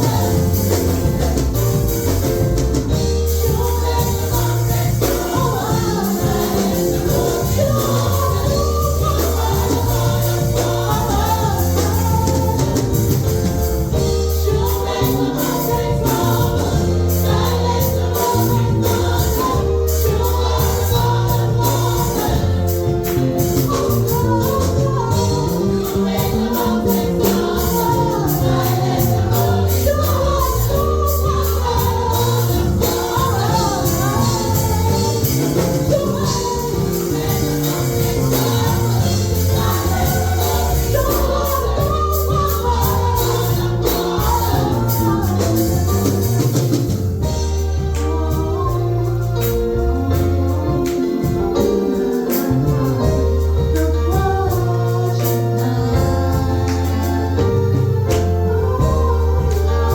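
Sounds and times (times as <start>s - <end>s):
sustained bass line: 0.0s - 51.6s
choir singing gospel: 0.0s - 59.9s
tambourine beat: 0.0s - 59.9s.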